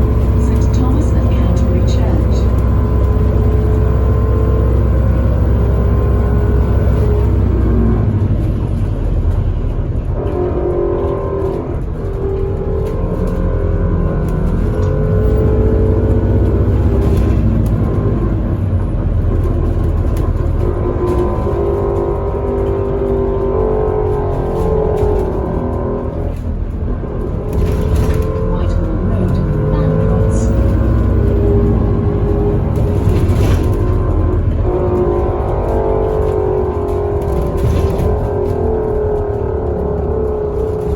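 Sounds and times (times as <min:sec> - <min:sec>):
bus engine rumble and whine: 0:00.0 - 0:40.9.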